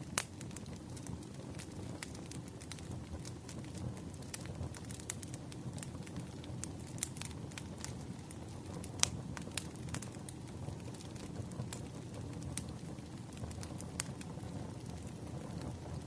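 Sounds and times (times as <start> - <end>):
firewood popping and snapping: 0.0 - 16.0
low rumble of flames: 0.0 - 16.0.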